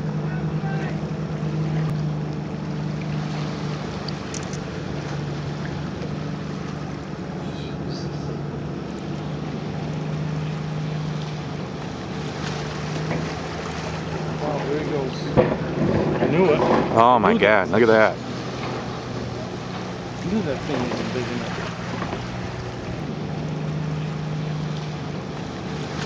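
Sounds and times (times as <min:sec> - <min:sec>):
engine running steadily: 0:00.0 - 0:26.0
water noise: 0:00.0 - 0:26.0
wind: 0:00.0 - 0:26.0.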